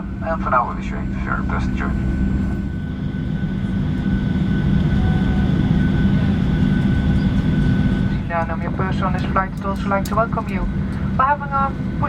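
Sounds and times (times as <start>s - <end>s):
airplane cabin drone: 0.0s - 12.0s
thin steady whine: 0.0s - 12.0s.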